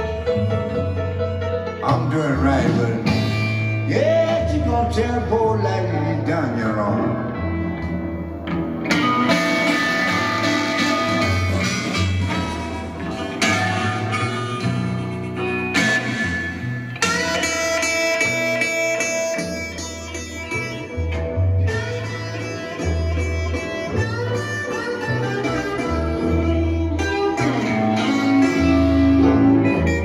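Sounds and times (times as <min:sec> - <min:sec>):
plucked guitar over bass line: 0:00.0 - 0:30.0.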